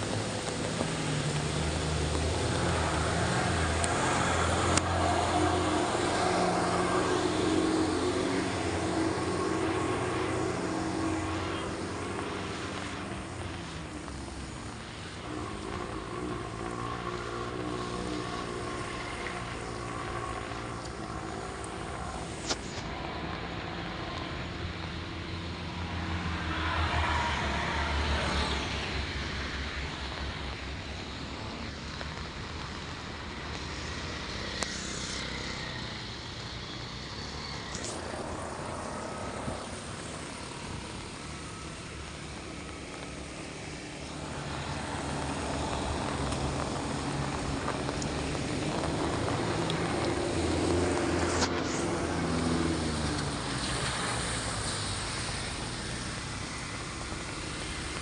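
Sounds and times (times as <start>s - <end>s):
steady traffic noise haze: 0.0s - 58.0s
vehicle engines passing: 0.0s - 58.0s.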